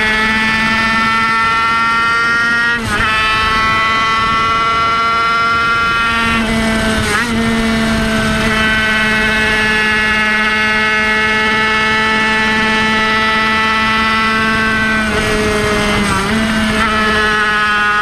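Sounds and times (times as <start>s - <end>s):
racing engine at high revs: 0.0s - 18.0s
wind rumble on microphone: 0.0s - 18.0s.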